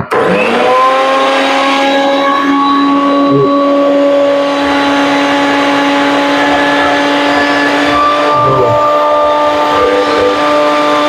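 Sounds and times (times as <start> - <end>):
mixer grinder motor whine: 0.0 - 11.0.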